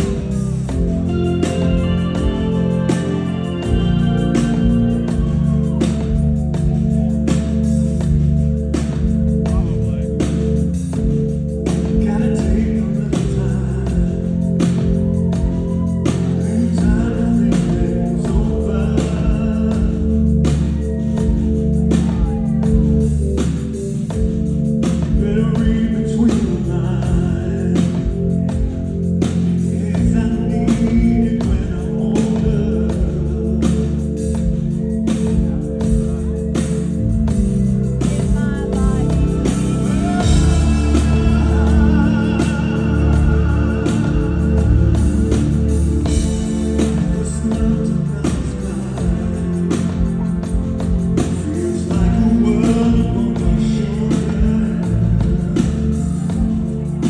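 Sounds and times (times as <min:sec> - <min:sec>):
sustained guitar chords: 0:00.0 - 0:29.2, 0:30.0 - 0:57.0
bass: 0:00.0 - 0:57.0
person singing: 0:00.0 - 0:57.0.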